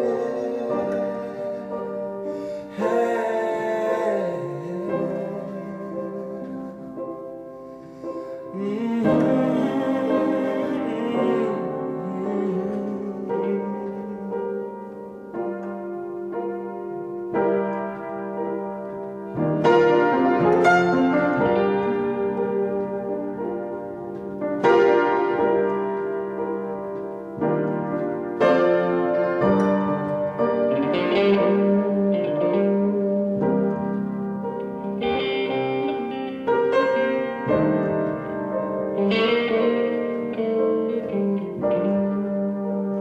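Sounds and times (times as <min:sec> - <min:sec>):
piano playing slow chords: 0:00.0 - 0:43.0.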